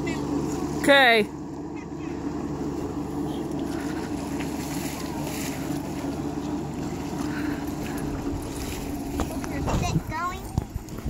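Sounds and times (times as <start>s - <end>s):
watercraft engine idling: 0.0s - 11.0s.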